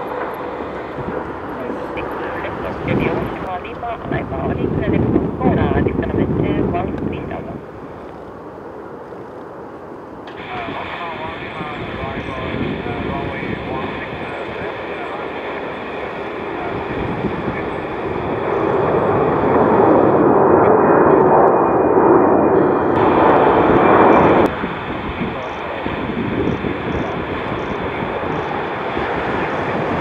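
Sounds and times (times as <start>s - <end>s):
airliner jet engines at takeoff: 0.0s - 30.0s
distant jet noise: 0.0s - 30.0s.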